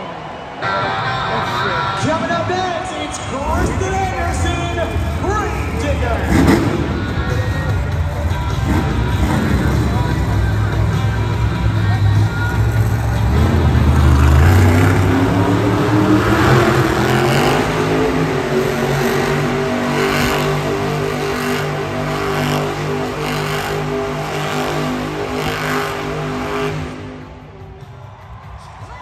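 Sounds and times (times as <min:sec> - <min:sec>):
truck engine revving hard: 0:03.2 - 0:27.4.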